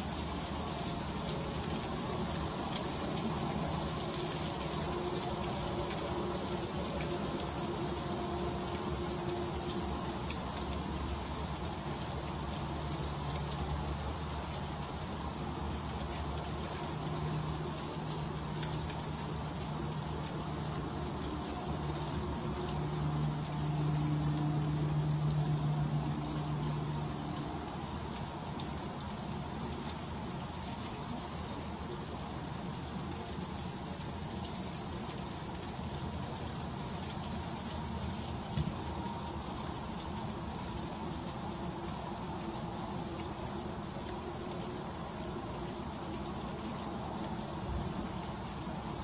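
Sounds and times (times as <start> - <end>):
freezing rain pattering: 0.0 - 49.0.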